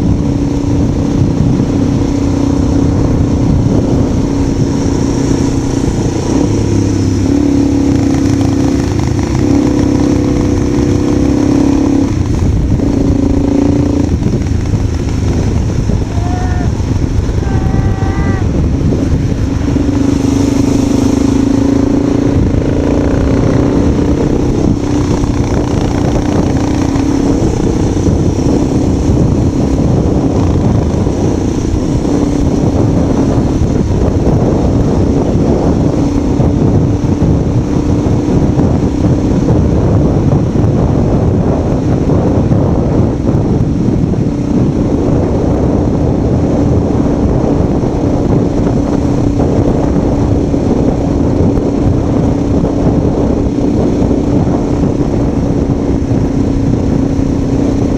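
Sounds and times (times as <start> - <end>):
motorcycle engine running: 0.0 - 57.9
wind buffeting microphone: 0.0 - 57.9.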